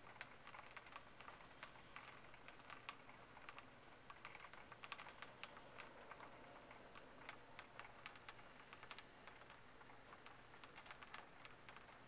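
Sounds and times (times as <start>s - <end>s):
raindrops tapping on window: 0.0s - 12.0s.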